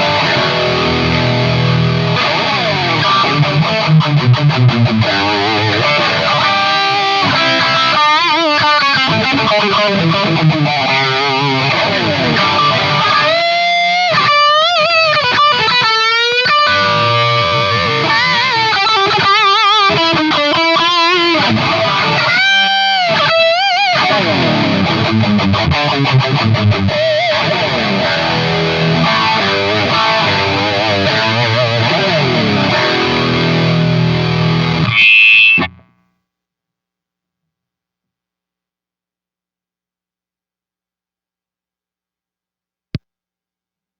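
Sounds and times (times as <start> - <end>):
electric guitar chords and riffs: 0.0 - 36.0
electric guitar lead lines: 0.0 - 36.0.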